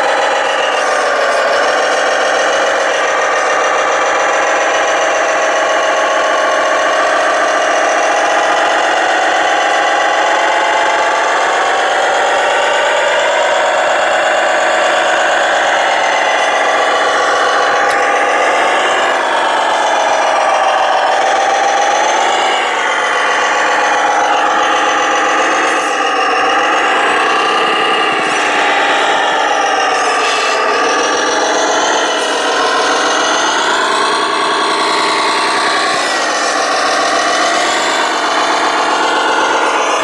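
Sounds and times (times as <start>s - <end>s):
model truck electric motors whining: 0.0s - 40.0s.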